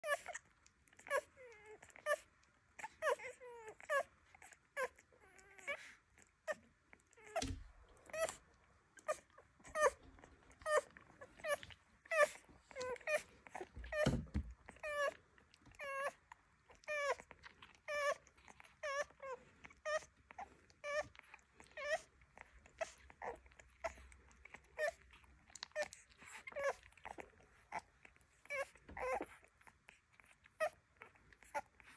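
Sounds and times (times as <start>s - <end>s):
puppies squeaking and whimpering: 0.0s - 31.9s.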